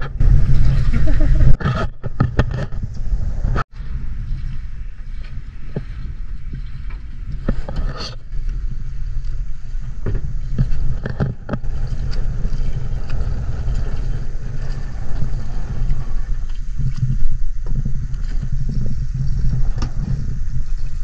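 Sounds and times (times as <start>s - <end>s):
boat motor rumbling: 0.0s - 21.0s
wind on microphone: 0.0s - 21.0s.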